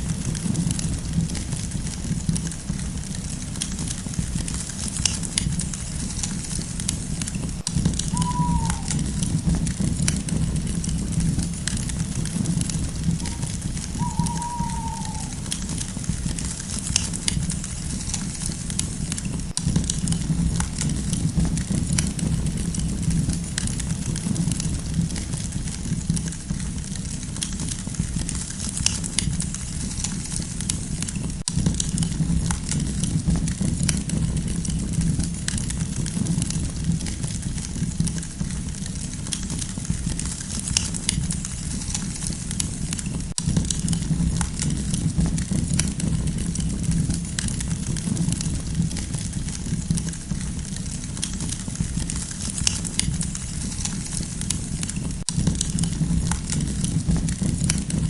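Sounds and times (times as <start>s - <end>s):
campfire crackling and popping: 0.0s - 58.0s
low rush of flame: 0.0s - 58.0s.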